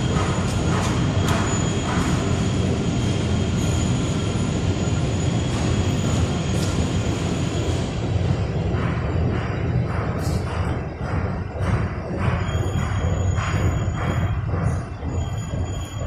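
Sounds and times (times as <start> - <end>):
machine hum and rumble: 0.0 - 16.0.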